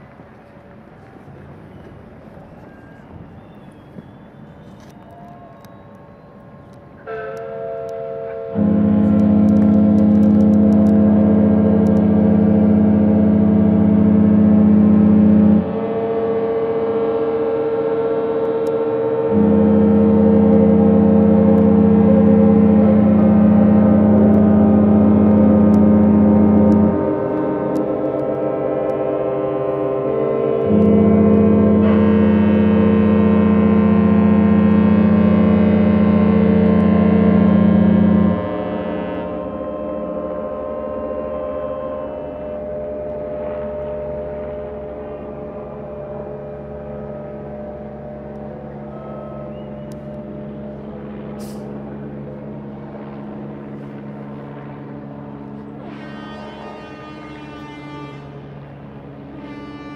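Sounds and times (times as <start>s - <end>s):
deep ship horn blast: 7.0s - 59.9s
higher-pitched ship horn: 7.0s - 59.9s.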